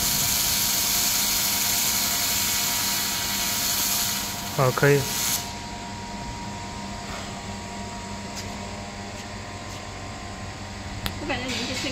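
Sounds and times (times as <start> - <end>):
machine hum with whine: 0.0 - 11.9.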